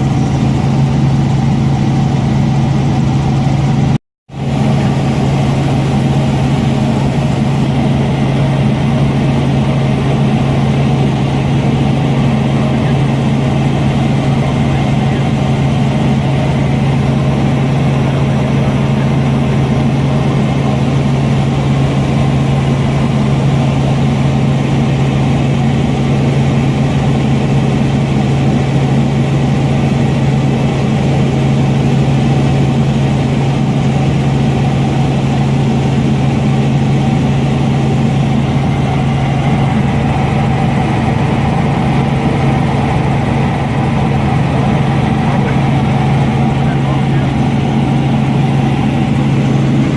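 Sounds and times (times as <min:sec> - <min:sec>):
helicopter engine and rotors droning: 0:00.0 - 0:49.9.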